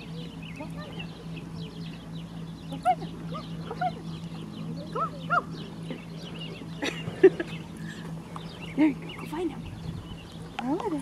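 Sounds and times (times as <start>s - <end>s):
high chirping of small birds: 0.0s - 11.0s
steady low hum: 0.0s - 11.0s.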